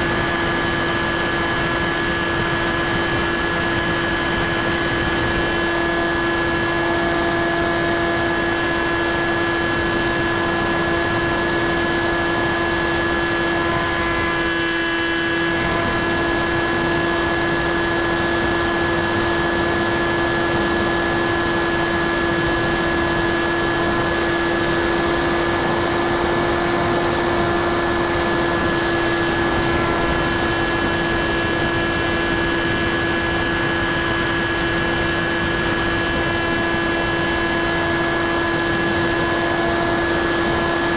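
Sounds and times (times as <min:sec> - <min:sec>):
electric motor whine: 0:00.0 - 0:40.9.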